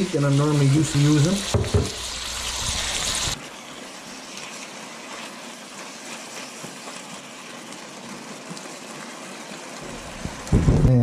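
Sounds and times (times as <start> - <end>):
meat and onion sizzling: 0.0 - 11.0.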